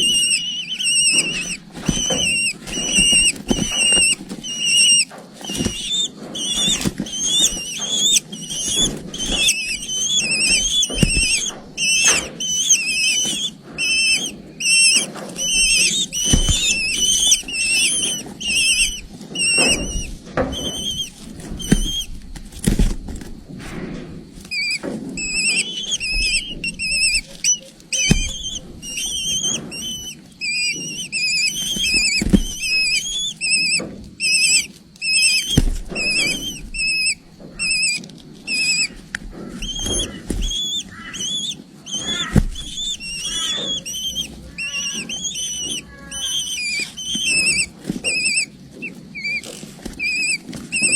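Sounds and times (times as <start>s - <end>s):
chicks chirping begging calls: 0.0s - 23.3s, 24.3s - 50.9s.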